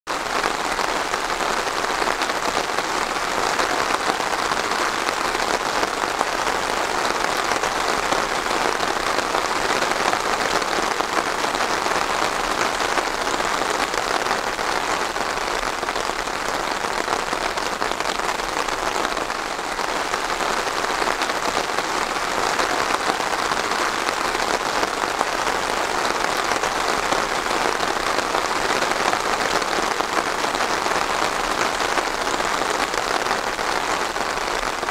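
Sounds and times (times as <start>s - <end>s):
rain falling on a surface: 0.1s - 34.9s.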